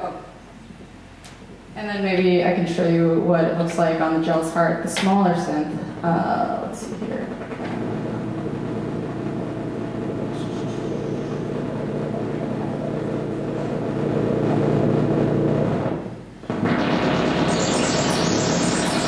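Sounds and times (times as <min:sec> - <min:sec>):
buzzing synthesizer drone: 0:02.4 - 0:19.0.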